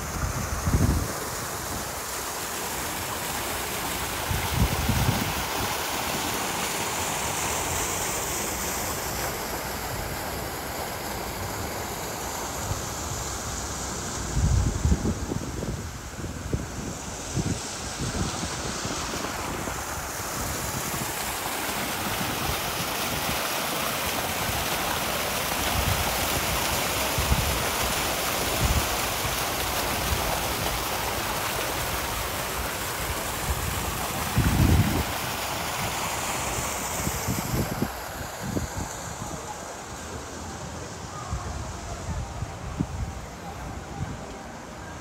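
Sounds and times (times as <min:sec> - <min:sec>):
fountain splashing into basin: 0:00.0 - 0:43.0.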